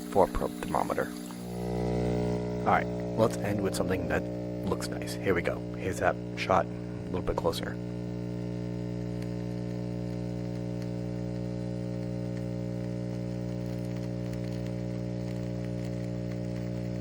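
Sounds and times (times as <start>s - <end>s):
espresso machine pump humming: 0.0s - 17.0s.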